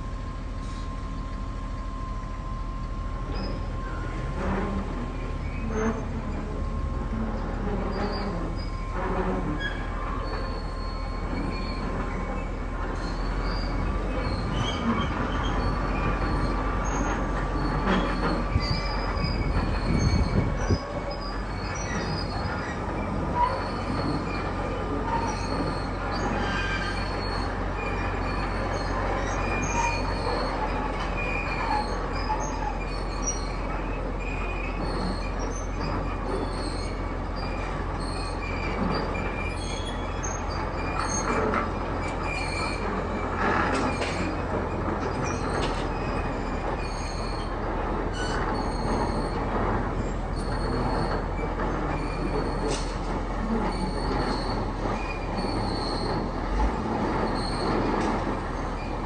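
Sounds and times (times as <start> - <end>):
steel wheels squealing on rails: 0.0 - 59.0.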